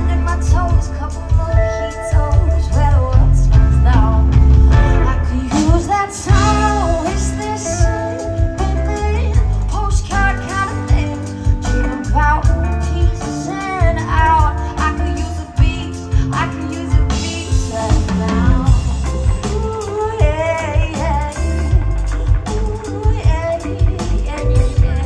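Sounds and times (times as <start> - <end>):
live band playing: 0.0 - 25.0
woman singing: 0.0 - 25.0.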